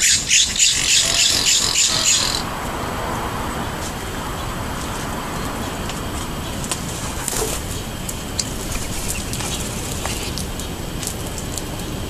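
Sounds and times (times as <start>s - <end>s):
small birds chirping: 0.0s - 2.5s, 4.2s - 12.0s
low outdoor rumble: 0.0s - 12.0s.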